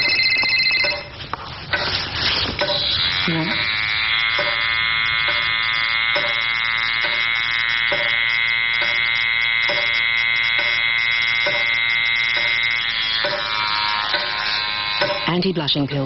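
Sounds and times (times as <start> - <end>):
soft regular pulse: 0.0 - 15.4
buzzy electronic drone: 2.6 - 16.0.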